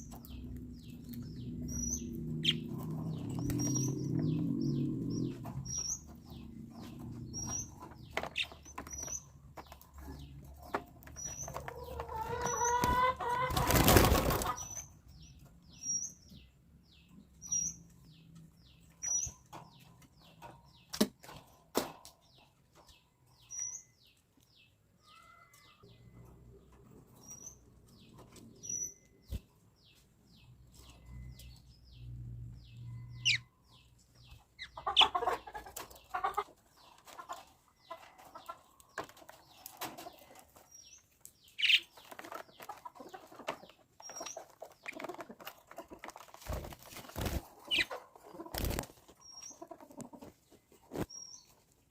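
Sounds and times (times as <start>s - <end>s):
lovebirds chirping: 0.0s - 21.0s, 22.2s - 51.9s.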